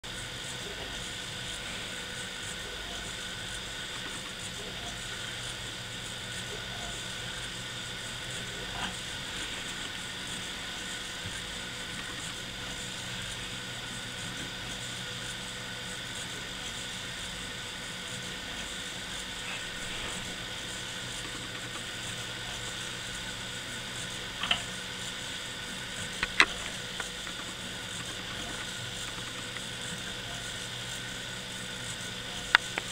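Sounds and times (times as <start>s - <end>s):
servos whining: 0.1s - 32.9s.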